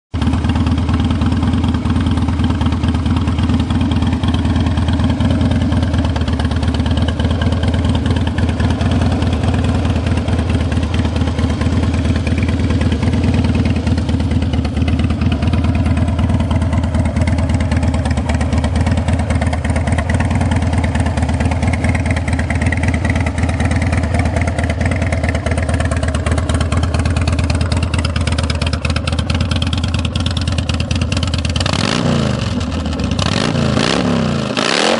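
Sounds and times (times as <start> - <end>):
motorcycle engine idling: 0.2 - 34.6.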